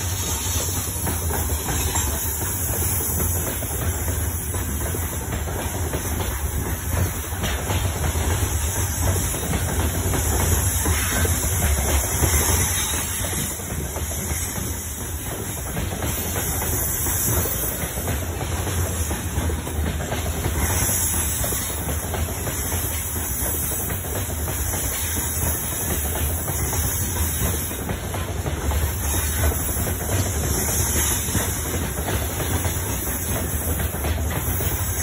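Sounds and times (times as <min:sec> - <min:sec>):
train wheels rumbling on rails: 0:00.0 - 0:35.0
wheels clacking over rail joints: 0:00.0 - 0:35.0.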